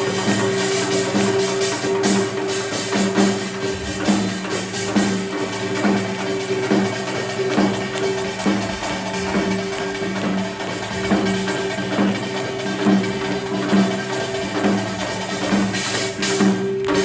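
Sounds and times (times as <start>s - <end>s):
steady percussion beat: 0.0s - 17.0s
traditional ensemble music: 0.0s - 17.0s.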